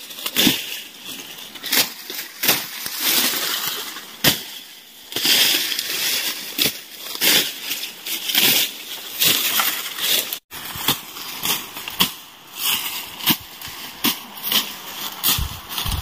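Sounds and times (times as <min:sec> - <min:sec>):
grass being slashed by hand: 0:00.2 - 0:16.0.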